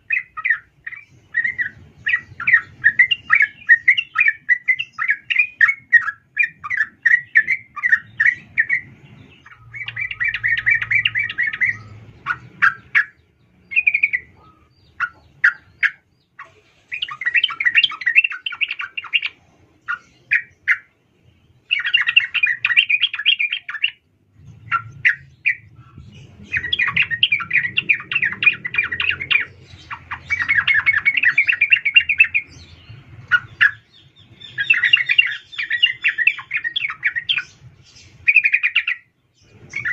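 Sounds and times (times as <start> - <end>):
bird chattering: 0.0 - 21.0, 21.6 - 39.9
bird chirps: 0.0 - 39.9.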